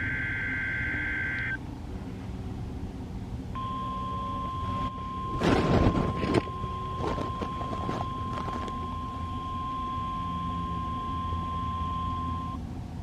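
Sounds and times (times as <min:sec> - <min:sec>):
steady electronic siren tone: 0:00.0 - 0:01.6, 0:03.6 - 0:12.6.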